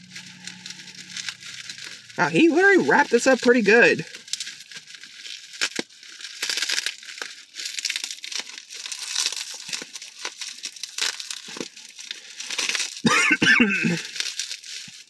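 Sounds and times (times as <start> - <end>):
plastic wrapping crinkling and tearing: 0.0 - 15.0.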